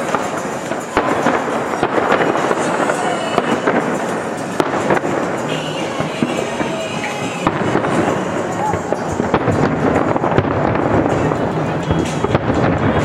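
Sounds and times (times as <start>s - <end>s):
crackle of fireworks: 0.0s - 13.0s
fireworks shells bursting: 0.0s - 13.0s.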